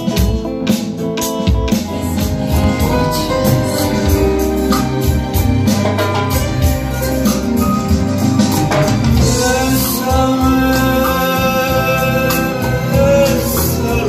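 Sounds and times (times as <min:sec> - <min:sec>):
live band playing: 0:00.0 - 0:14.0
sustained keyboard chords: 0:00.0 - 0:14.0.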